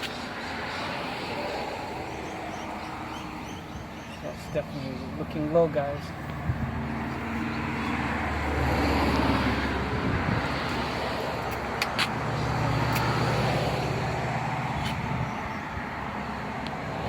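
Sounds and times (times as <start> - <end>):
engine hum: 0.0 - 17.0
road traffic passing: 0.0 - 17.0.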